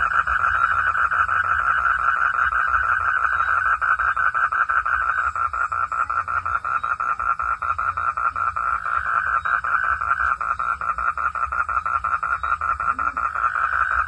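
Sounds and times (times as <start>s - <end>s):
frog calling: 0.0s - 14.0s.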